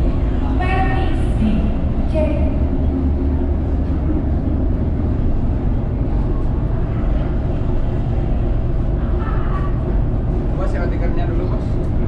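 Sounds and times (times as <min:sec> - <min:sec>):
ferry engine low rumble: 0:00.0 - 0:12.0.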